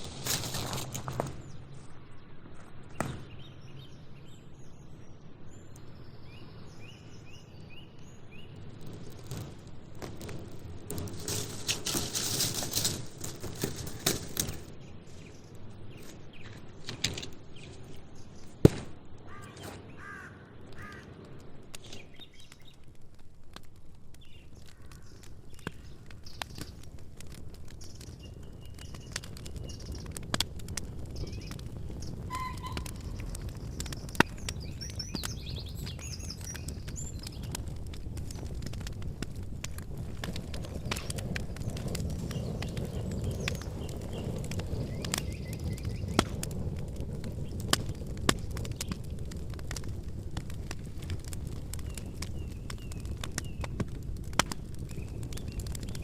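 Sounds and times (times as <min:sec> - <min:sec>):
campfire crackling: 0:00.0 - 0:56.0
birds chirping: 0:00.2 - 0:09.4, 0:11.2 - 0:22.9, 0:24.2 - 0:26.9, 0:27.6 - 0:30.2, 0:31.0 - 0:38.8, 0:39.7 - 0:49.2, 0:51.6 - 0:53.9, 0:54.7 - 0:56.0.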